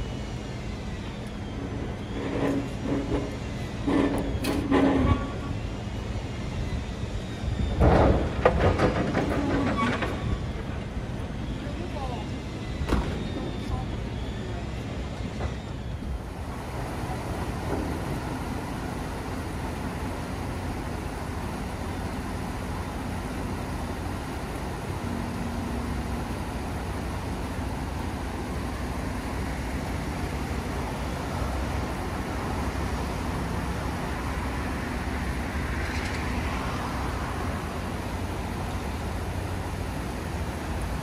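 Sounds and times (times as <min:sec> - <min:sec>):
heavy machinery engine rumble: 0:00.0 - 0:41.0.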